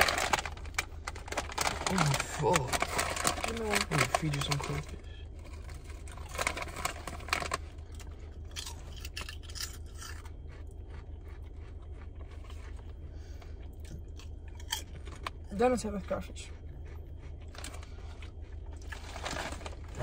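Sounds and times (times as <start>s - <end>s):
corn snacks crunching: 0.0s - 15.5s, 16.9s - 20.0s
steady low hum: 0.0s - 20.0s.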